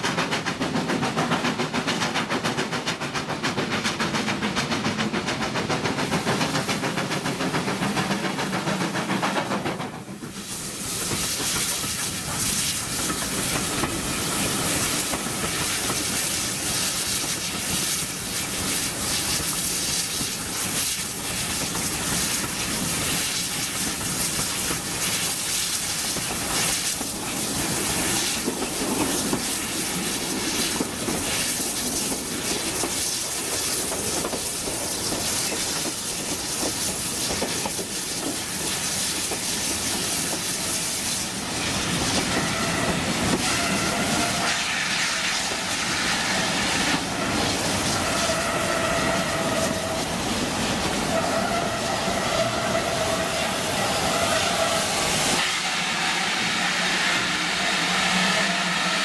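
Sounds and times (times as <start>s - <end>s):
steam hissing: 0.0s - 59.0s
train wheels on rails: 0.0s - 59.0s.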